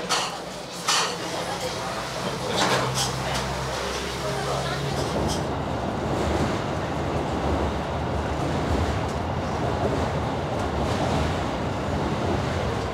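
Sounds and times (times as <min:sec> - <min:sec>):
train running inside carriage: 0:00.0 - 0:12.9.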